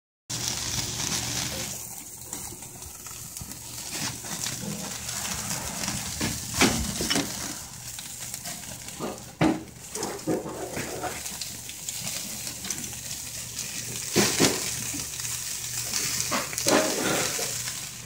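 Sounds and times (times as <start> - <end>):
meat sizzling on a grill: 0.3 - 18.0.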